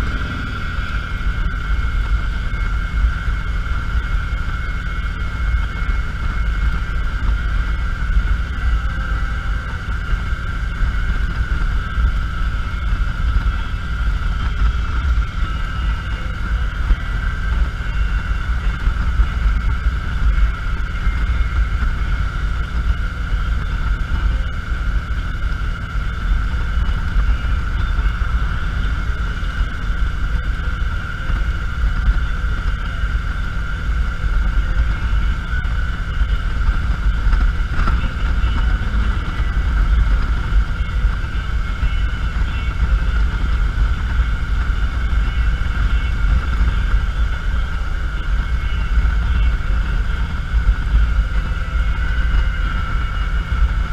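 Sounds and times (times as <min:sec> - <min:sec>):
motorcycle engine and road rumble: 0:00.0 - 0:53.9
thin steady whine: 0:00.0 - 0:53.9
wind on microphone: 0:00.0 - 0:53.9.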